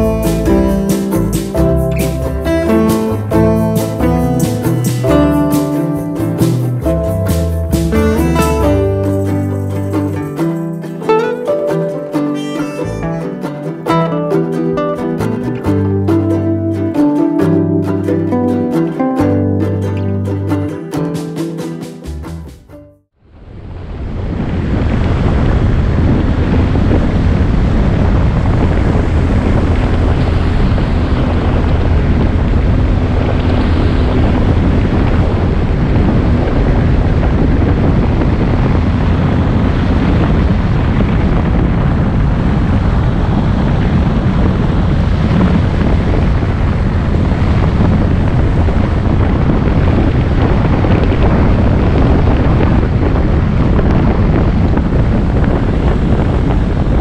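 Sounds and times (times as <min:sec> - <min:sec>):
wind rushing over microphone: 0:00.0 - 0:12.1, 0:23.2 - 0:57.0.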